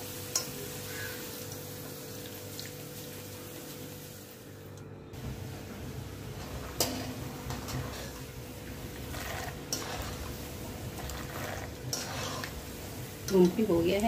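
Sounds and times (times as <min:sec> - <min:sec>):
peanuts sizzling in oil: 0:00.0 - 0:04.5, 0:05.2 - 0:14.0.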